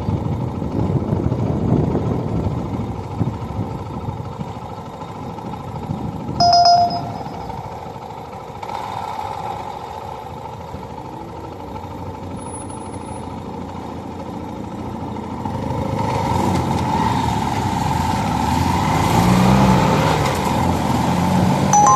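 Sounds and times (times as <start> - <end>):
road and wind noise: 0.0 - 6.4, 8.0 - 21.9.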